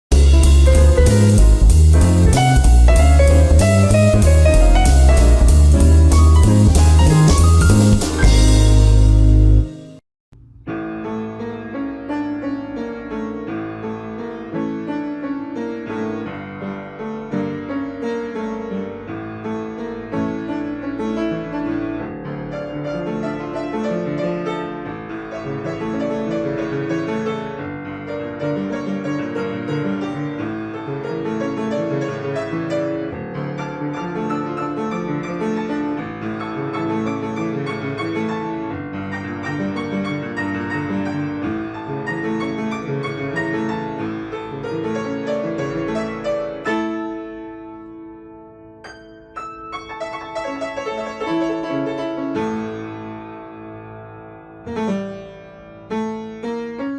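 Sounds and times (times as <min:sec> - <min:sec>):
solo piano melody: 0:00.1 - 0:56.9.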